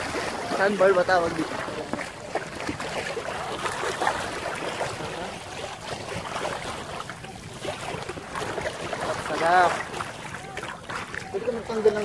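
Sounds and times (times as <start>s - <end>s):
sea water lapping: 0.0s - 12.0s
small splashes: 0.0s - 12.0s.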